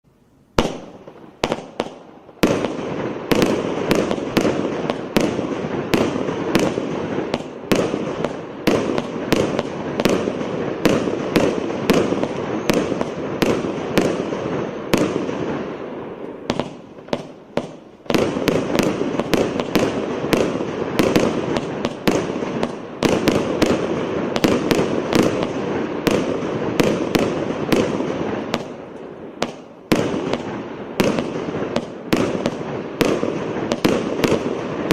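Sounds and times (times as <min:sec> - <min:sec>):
firework crackle: 0:00.5 - 0:34.9
firework shots and bangs: 0:00.6 - 0:34.9.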